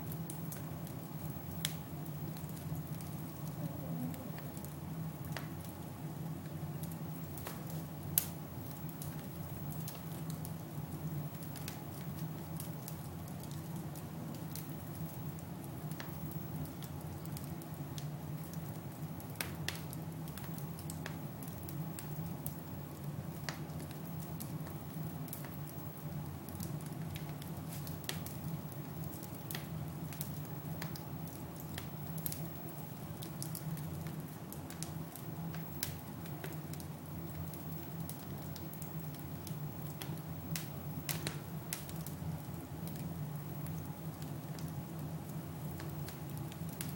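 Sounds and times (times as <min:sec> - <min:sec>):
fire crackling in fireplace: 0:00.0 - 0:46.9.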